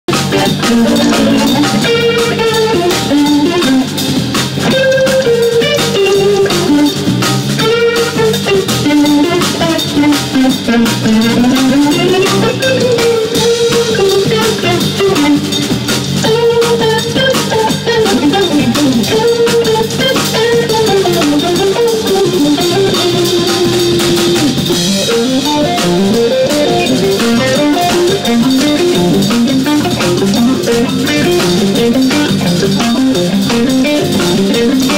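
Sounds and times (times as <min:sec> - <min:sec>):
electric bass: 0:00.2 - 0:34.9
electric guitar melody: 0:00.4 - 0:34.9.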